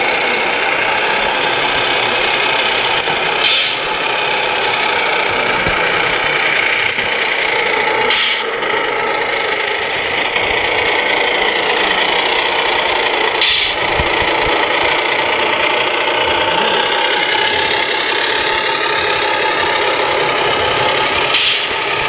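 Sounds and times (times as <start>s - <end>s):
rattle: 0.0s - 22.0s
toy truck motor running: 0.0s - 22.0s.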